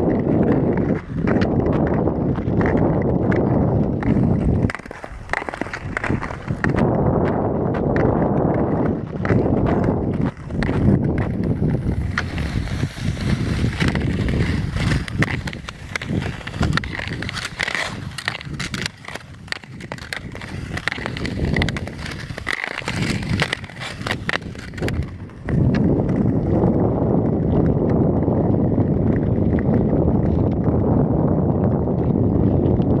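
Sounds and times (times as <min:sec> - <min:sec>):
ice skates scraping on ice: 0:00.0 - 0:33.0.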